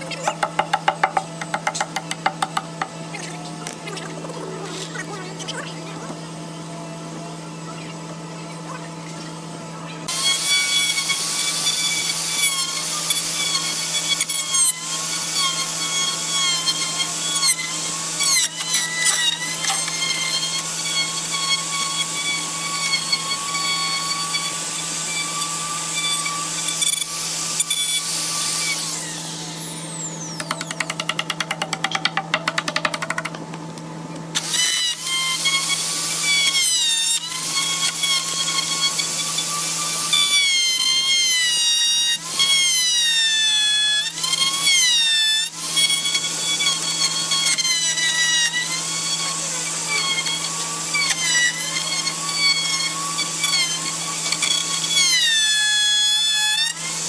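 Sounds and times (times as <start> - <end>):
router motor whining: 0.0 - 33.4, 34.3 - 57.0.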